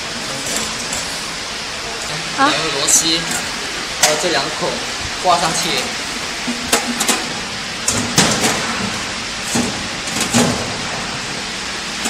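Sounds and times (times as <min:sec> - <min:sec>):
workshop hiss: 0:00.0 - 0:12.0.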